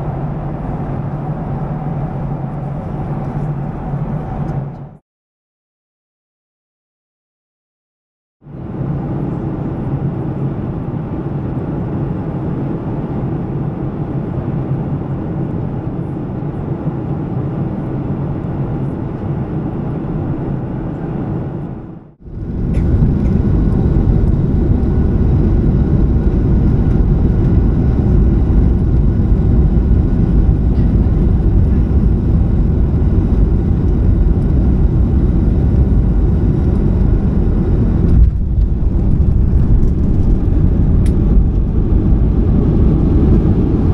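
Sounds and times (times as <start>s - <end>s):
jet engine rumble and airflow roar: 0.0s - 5.0s, 8.4s - 43.9s.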